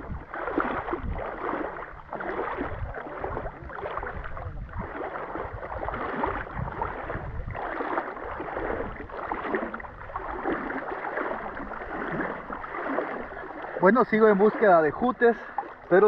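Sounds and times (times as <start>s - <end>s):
muffled water sloshing and gurgling: 0.0s - 16.0s.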